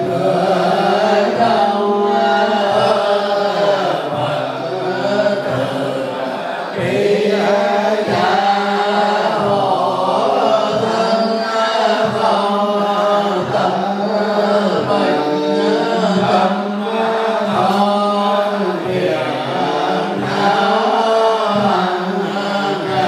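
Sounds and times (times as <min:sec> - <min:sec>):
many voices chanting in unison: 0:00.0 - 0:23.0.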